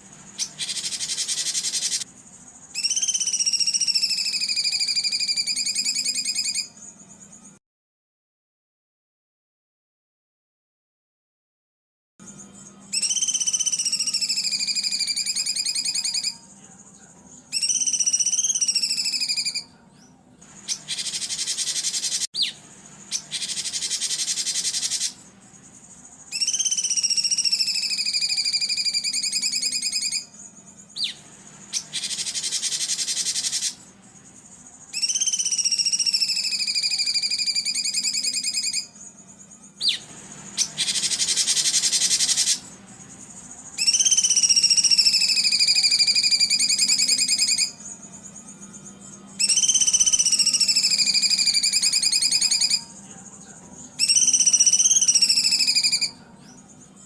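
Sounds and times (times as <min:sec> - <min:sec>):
high whistled songbird phrases: 0:00.0 - 0:07.6, 0:12.2 - 0:57.0.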